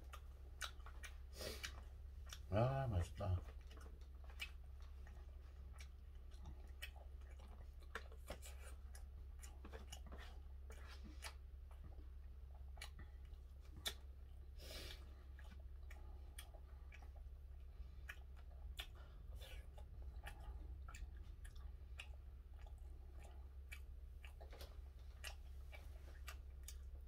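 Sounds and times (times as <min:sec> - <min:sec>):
low steady hum: 0:00.0 - 0:27.0
quiet chewing: 0:00.0 - 0:27.0.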